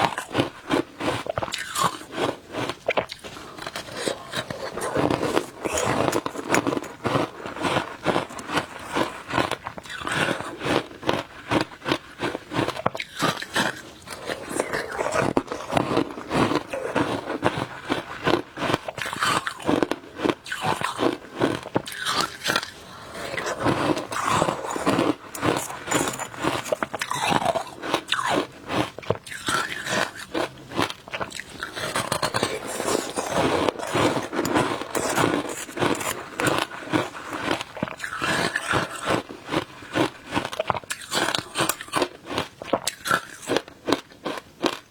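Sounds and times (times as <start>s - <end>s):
crunching shaved ice: 0.0s - 44.9s.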